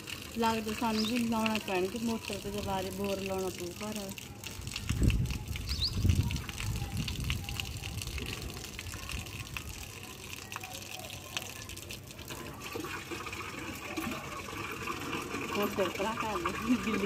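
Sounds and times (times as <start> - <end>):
water running from a hose: 0.0 - 17.0.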